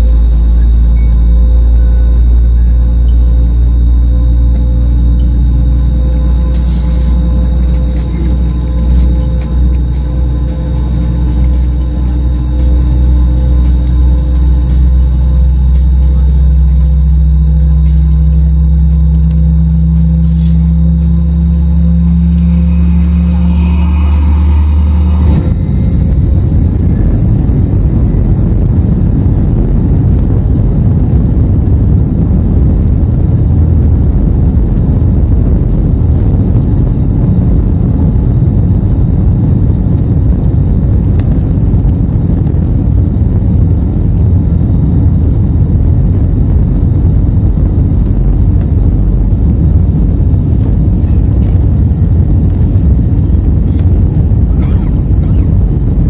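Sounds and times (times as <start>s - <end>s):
airliner engines rumbling: 0.0s - 56.0s.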